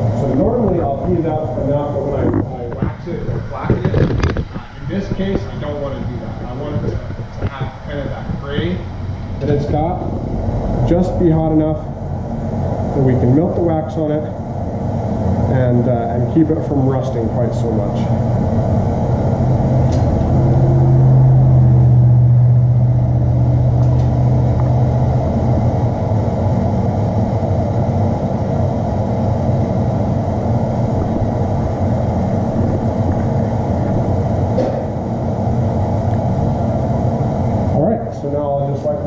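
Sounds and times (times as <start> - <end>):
forge low rushing: 0.0 - 39.0
low hum: 0.0 - 39.0.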